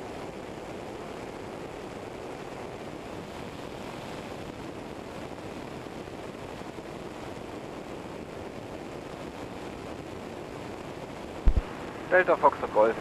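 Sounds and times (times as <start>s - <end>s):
aircraft airflow rushing: 0.0s - 13.0s.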